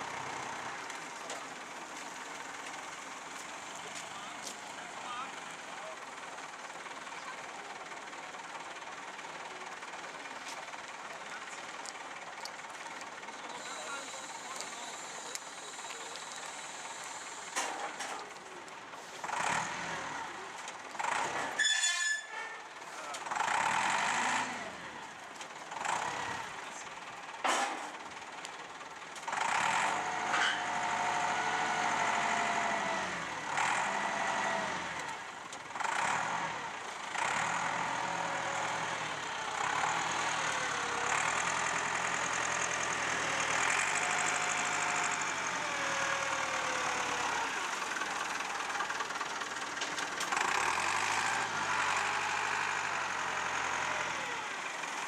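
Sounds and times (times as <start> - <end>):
diesel engine revving: 0.0 - 21.7, 22.8 - 55.0.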